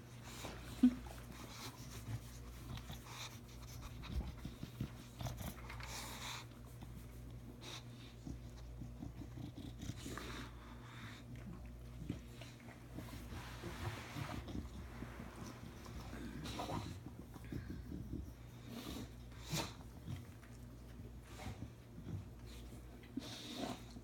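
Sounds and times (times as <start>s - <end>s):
dog sniffing and breathing: 0.0s - 24.0s.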